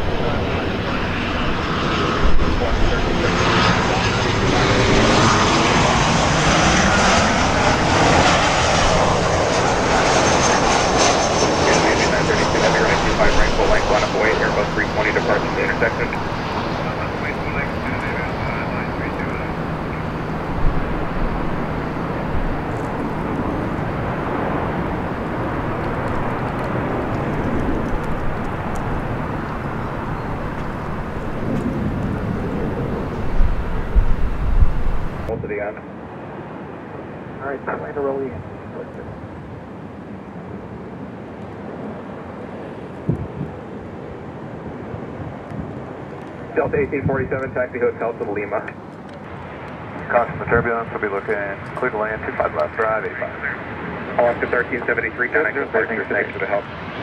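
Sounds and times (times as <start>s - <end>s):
airliner engines rushing: 0.0s - 57.0s.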